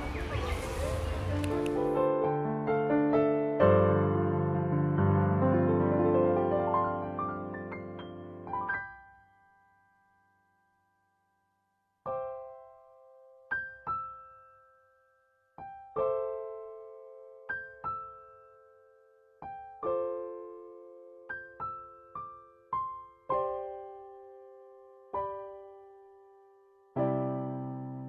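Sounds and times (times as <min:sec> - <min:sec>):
slow solo piano: 0:00.0 - 0:09.7, 0:12.1 - 0:14.9, 0:15.6 - 0:28.0.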